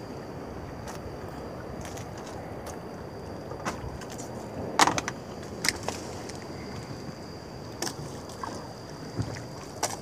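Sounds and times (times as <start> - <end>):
water around boat: 0.0 - 10.0
wind: 0.0 - 10.0.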